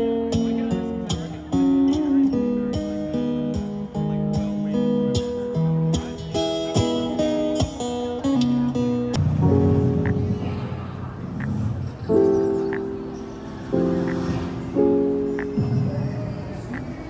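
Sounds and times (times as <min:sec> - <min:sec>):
acoustic guitar strumming: 0:00.0 - 0:16.8.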